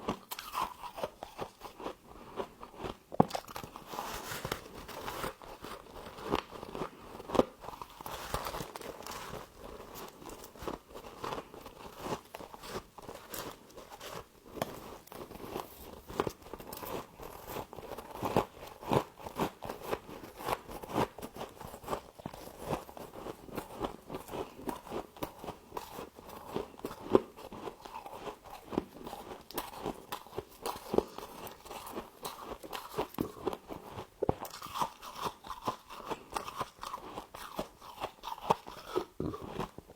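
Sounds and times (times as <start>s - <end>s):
frost being bitten and chewed: 0.0s - 39.9s.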